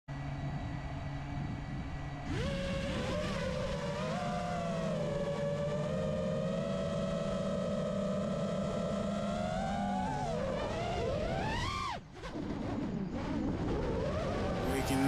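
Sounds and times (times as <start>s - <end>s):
drone motors whining: 1.7s - 15.0s.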